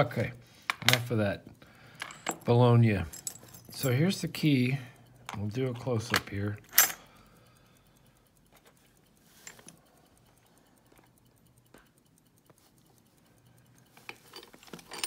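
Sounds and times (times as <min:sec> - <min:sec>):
keys clicking: 0:00.6 - 0:15.0.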